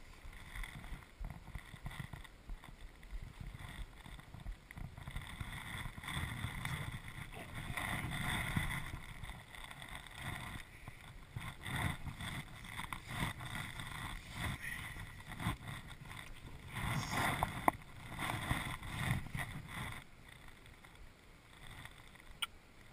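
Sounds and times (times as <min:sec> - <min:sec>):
fishing gear handling noise: 0:00.2 - 0:22.3.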